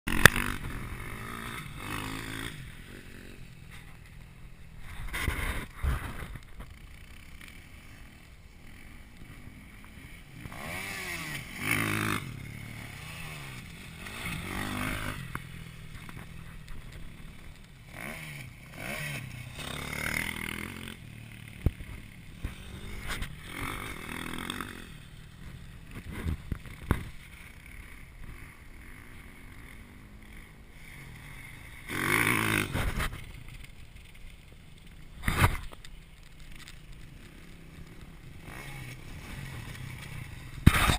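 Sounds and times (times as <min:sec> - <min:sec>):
motocross bikes revving: 0:00.1 - 0:40.9.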